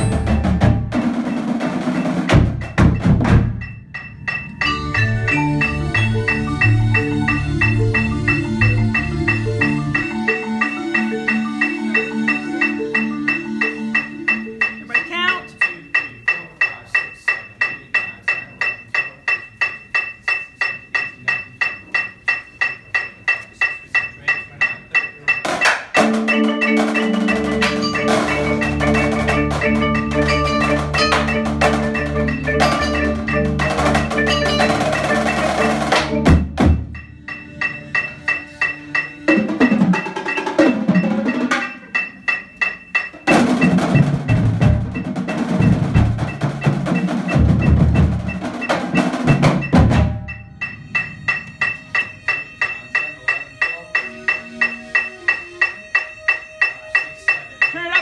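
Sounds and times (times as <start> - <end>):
percussion ensemble playing: 0.0 - 58.0.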